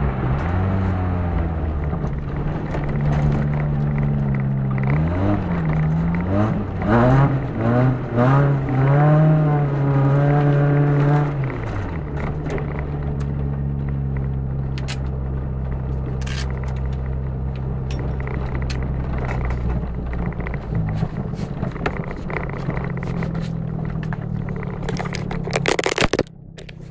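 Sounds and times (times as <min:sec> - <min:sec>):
car engine revving: 0:00.0 - 0:26.9
ticks and cracks from car: 0:00.2 - 0:26.9.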